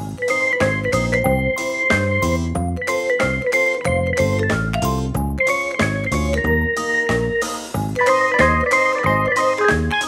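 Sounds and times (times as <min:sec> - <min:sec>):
upbeat instrumental music: 0:00.0 - 0:10.0.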